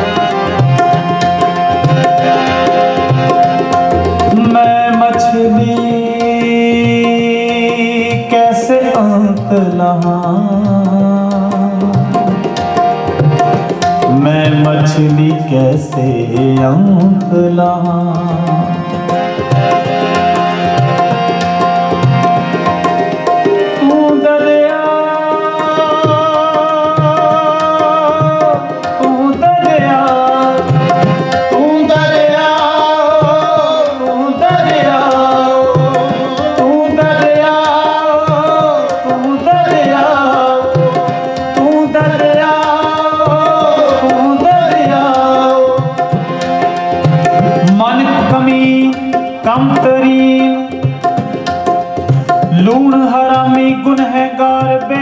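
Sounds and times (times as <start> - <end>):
harmonium melody: 0.0 - 55.0
tabla playing a steady rhythm: 0.0 - 55.0.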